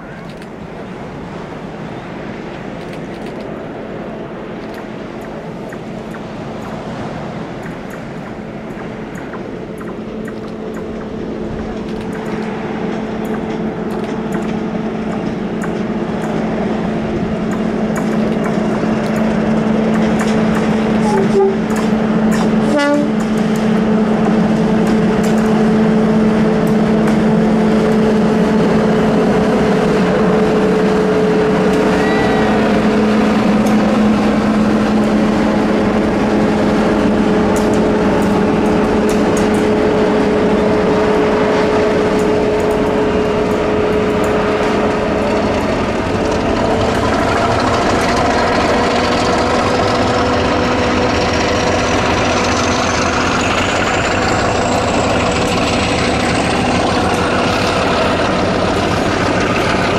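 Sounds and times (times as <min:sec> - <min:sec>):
diesel locomotive engine drone: 0:00.0 - 0:59.9
locomotive whine: 0:00.0 - 0:59.9.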